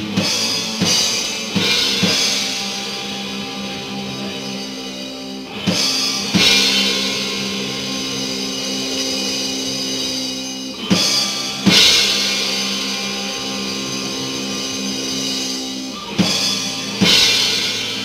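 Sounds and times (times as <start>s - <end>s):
drum hits with crashing cymbals: 0.0s - 18.0s
held guitar chord ringing: 0.0s - 18.0s.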